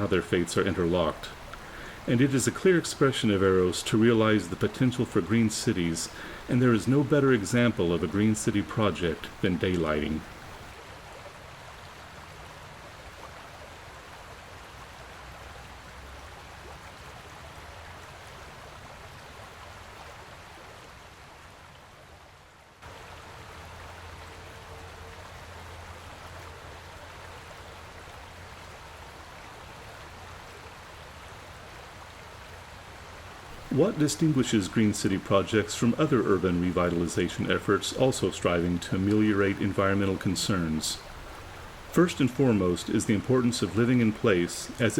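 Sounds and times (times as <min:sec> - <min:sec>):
stream water rushing: 0:00.0 - 0:21.6, 0:22.8 - 0:44.9.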